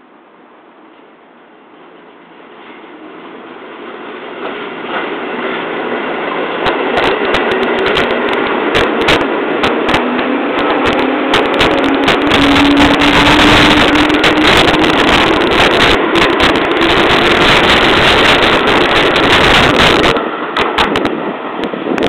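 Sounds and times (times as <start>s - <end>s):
electric train passing: 0.0s - 22.0s
steel wheels rolling on rail: 0.8s - 22.0s.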